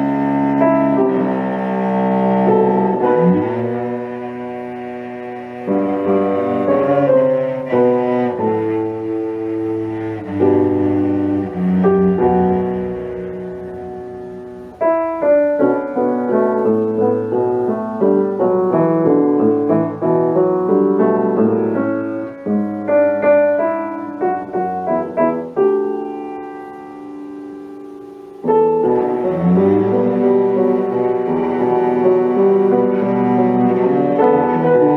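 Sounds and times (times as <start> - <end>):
cello playing: 0.0 - 34.9
quick piano notes: 0.0 - 34.9.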